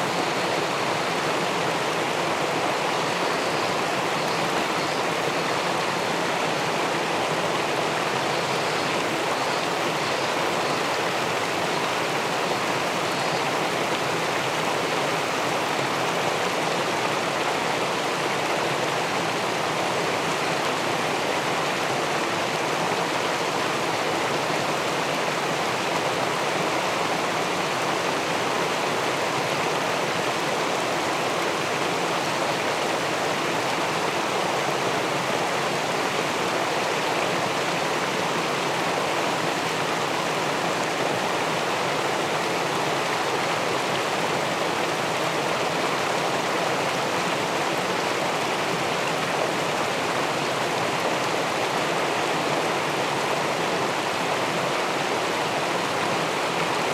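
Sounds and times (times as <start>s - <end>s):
river water rushing over a weir: 0.0s - 56.9s.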